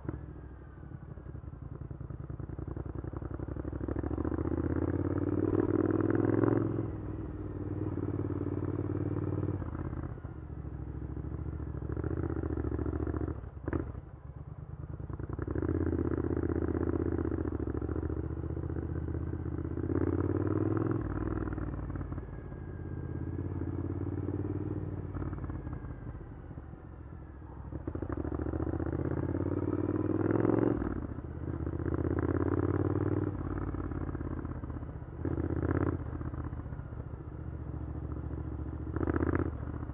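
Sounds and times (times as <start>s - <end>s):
motorcycle engine revving: 1.6s - 14.1s, 15.1s - 39.9s.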